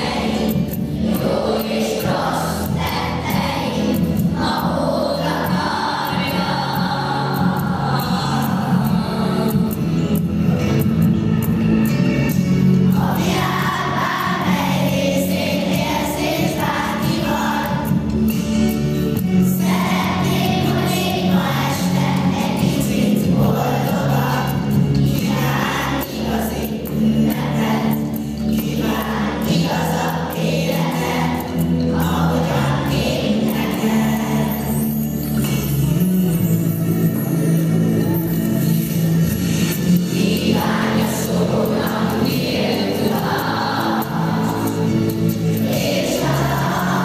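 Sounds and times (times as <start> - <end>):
children's choir singing: 0.0 - 11.6, 12.5 - 47.0
musical accompaniment low notes: 0.0 - 47.0.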